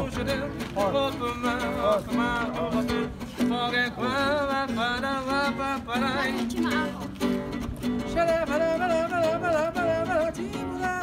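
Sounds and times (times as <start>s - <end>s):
man singing: 0.0s - 11.0s
strummed classical guitar: 0.0s - 11.0s.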